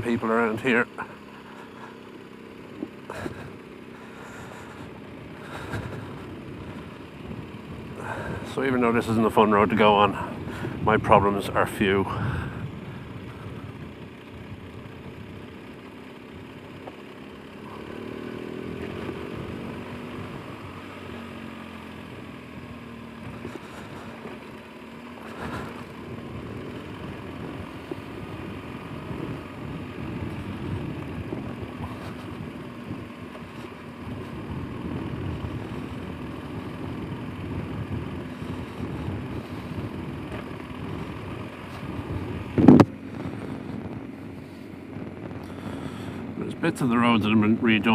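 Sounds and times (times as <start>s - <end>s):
motorcycle engine at low speed: 0.0s - 47.9s.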